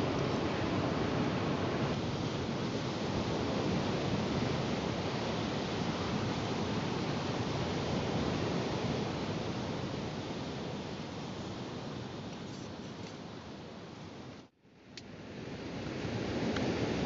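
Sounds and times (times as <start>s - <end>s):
sea surf: 0.0s - 12.3s, 15.2s - 17.0s.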